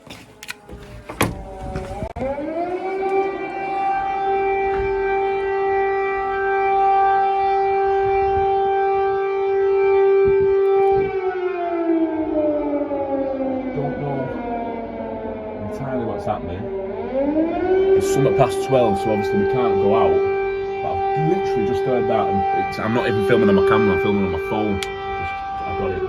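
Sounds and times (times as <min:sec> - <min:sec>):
air raid siren wailing: 0:00.0 - 0:26.0.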